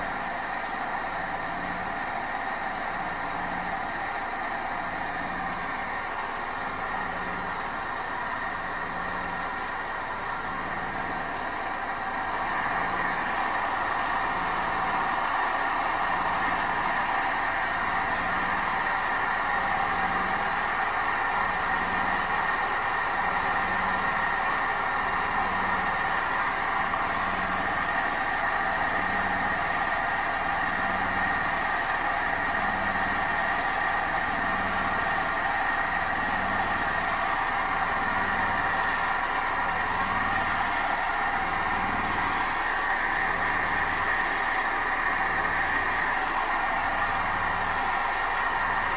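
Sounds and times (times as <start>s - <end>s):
stirling engine hiss and pulsing hum: 0.0s - 48.9s.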